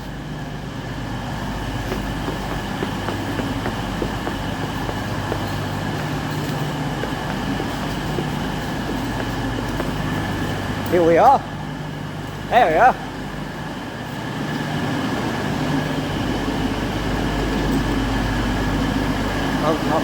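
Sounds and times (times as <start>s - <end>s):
locomotive engine drone: 0.0s - 20.0s.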